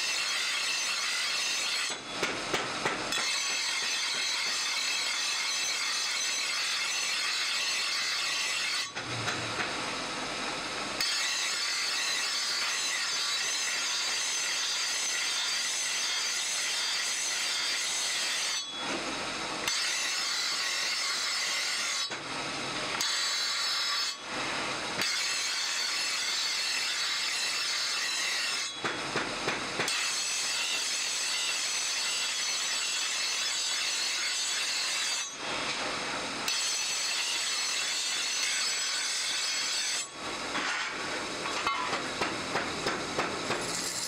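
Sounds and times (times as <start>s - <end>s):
blade on grinding wheel: 0.0s - 44.0s.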